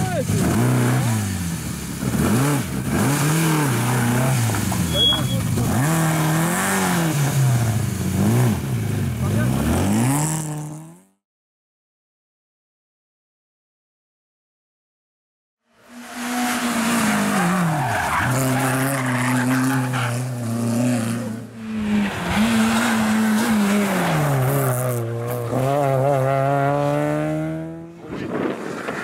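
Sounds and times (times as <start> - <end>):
rally car engines revving: 0.0 - 11.1, 15.7 - 29.0.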